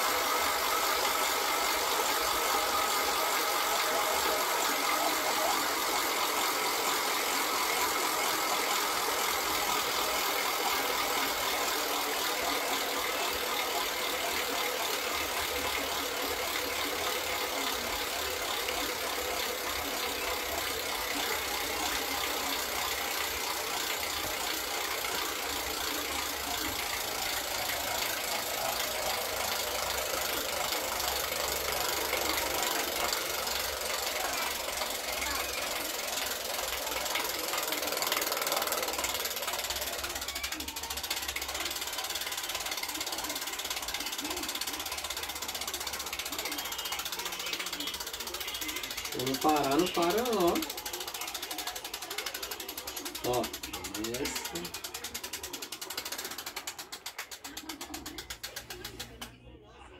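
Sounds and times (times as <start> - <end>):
ratchet reel clicking: 0.0 - 59.4.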